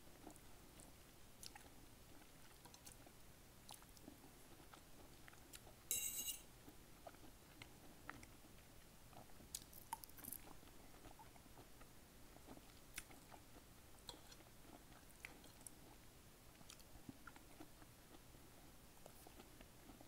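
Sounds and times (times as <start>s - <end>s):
wet chewing sounds: 0.1s - 5.8s, 6.6s - 20.0s.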